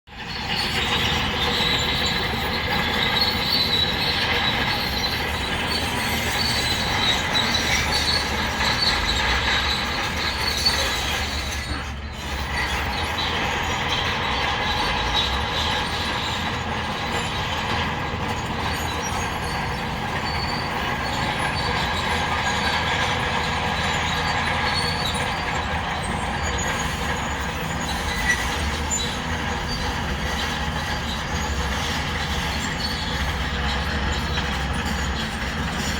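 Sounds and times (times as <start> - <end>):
diesel earthmoving machinery working: 0.1 - 35.9.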